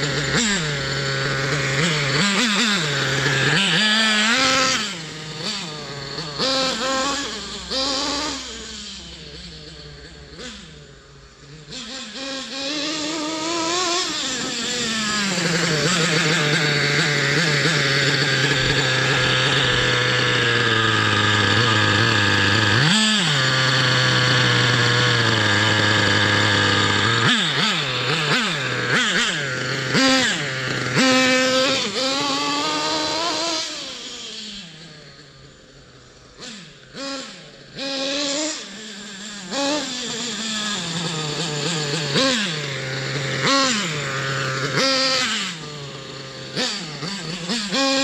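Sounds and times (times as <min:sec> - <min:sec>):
engine throttle blips: 0:00.0 - 0:48.0
model engine revving: 0:00.0 - 0:48.0.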